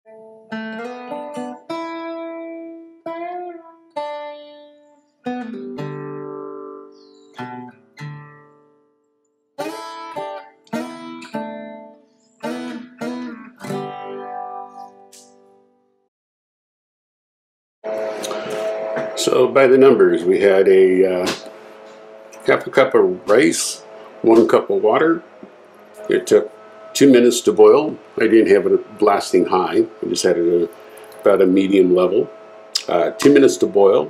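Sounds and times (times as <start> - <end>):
guitar plucked and strummed: 0.1 - 15.9, 17.8 - 34.0.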